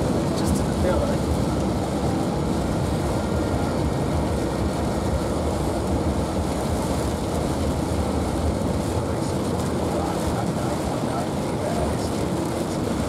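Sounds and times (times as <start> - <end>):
car cabin road rumble: 0.0 - 13.0
rain hissing on car: 0.0 - 13.0.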